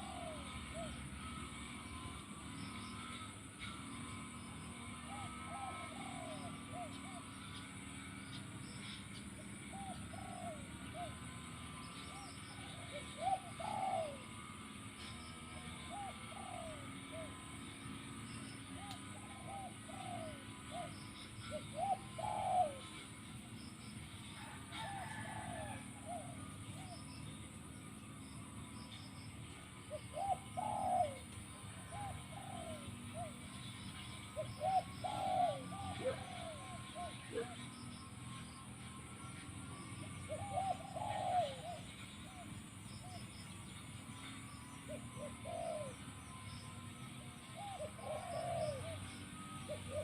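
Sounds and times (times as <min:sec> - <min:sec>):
dove cooing: 0:00.0 - 0:27.6, 0:29.4 - 0:50.0.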